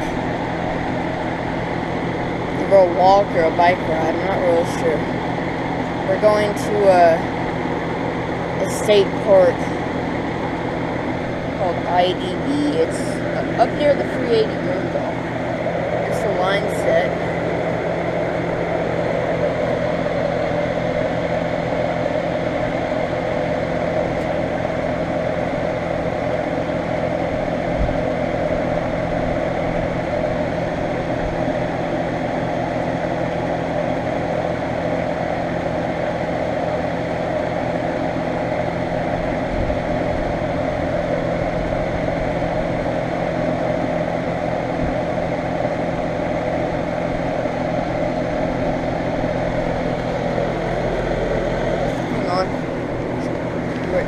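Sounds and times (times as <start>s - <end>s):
compressor low hum: 0.0s - 54.0s
condenser fan whoosh: 0.0s - 54.0s.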